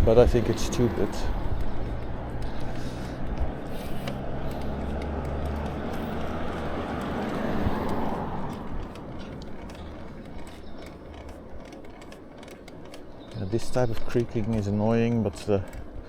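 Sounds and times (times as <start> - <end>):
road rumble: 0.0 - 16.0.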